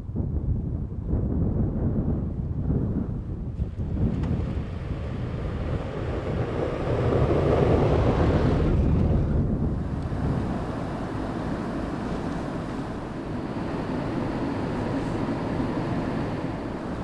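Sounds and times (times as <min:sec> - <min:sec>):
wind gusting across microphone: 0:00.0 - 0:17.0.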